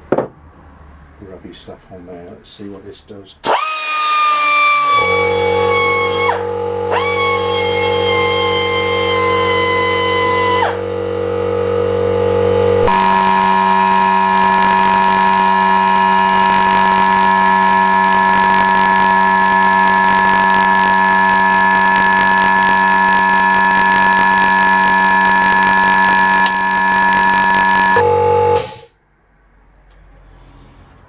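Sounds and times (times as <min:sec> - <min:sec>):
air die grinder whining: 0:03.4 - 0:28.9.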